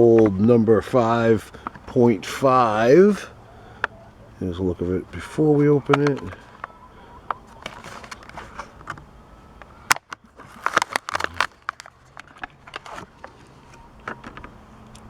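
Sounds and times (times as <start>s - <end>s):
plastic blister pack crackling: 0.0s - 15.0s.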